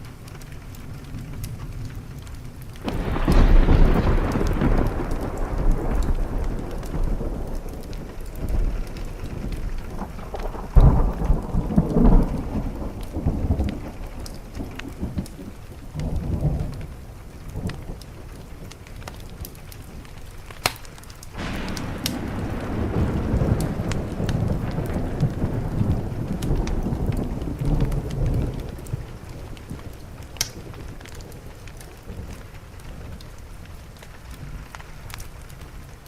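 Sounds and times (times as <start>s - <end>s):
steady rain: 0.0s - 36.0s
thunder rumbling: 0.0s - 36.0s
wood fire crackling: 0.0s - 36.0s.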